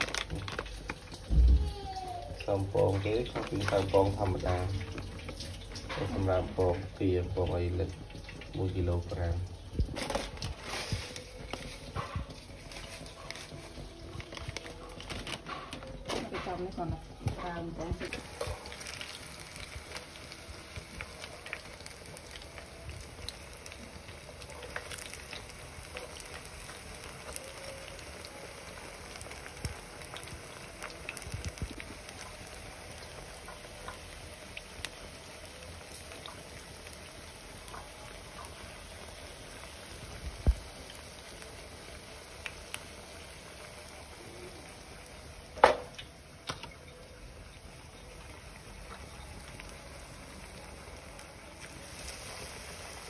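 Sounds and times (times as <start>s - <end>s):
meat frying in hot oil: 0.0s - 53.0s.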